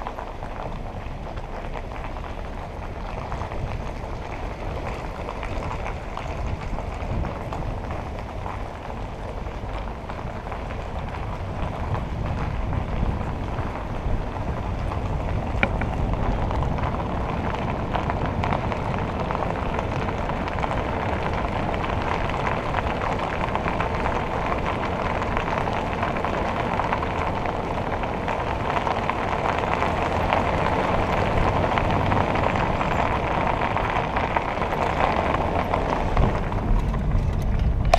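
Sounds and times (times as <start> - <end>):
tyre noise on pavement: 0.0 - 37.9
wind rushing over microphone: 0.0 - 37.9.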